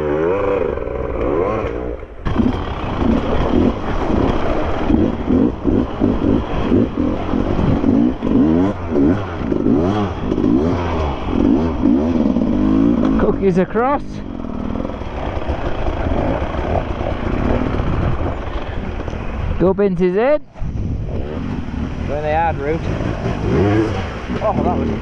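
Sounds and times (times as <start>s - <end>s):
dirt bike engine revving: 0.0s - 19.4s, 20.7s - 25.0s.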